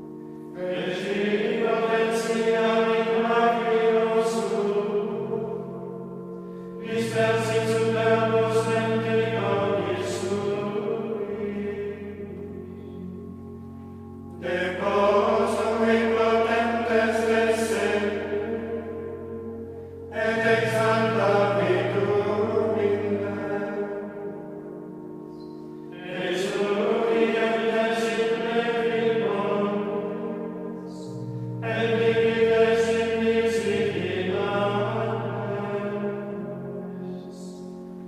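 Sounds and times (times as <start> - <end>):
monks chanting in unison: 0.6 - 5.6, 6.8 - 12.4, 14.4 - 18.8, 20.1 - 24.0, 25.9 - 37.6.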